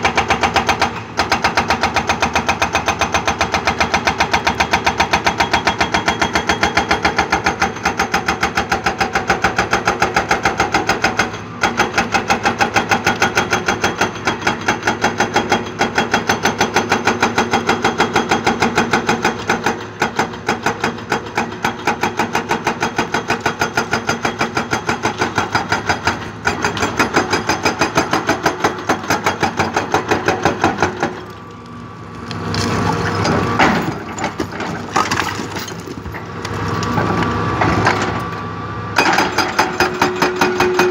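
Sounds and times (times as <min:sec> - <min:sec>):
hydraulic breaker hammer pounding rock: 0:00.0 - 0:31.4, 0:32.6 - 0:38.3, 0:39.0 - 0:40.9.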